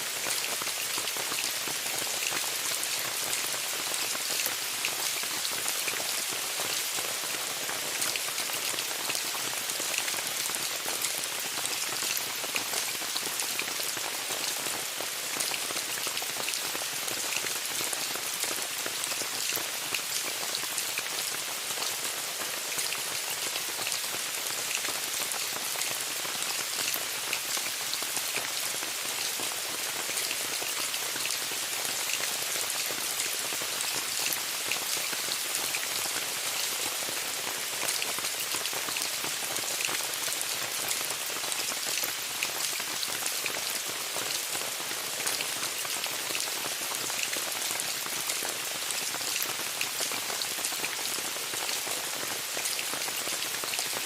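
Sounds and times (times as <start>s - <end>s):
rain falling on a tent: 0.0s - 54.0s.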